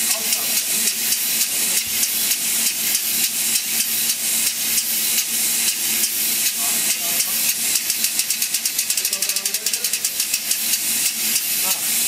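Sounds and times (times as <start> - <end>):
air motor exhaust hissing in puffs: 0.0 - 12.0.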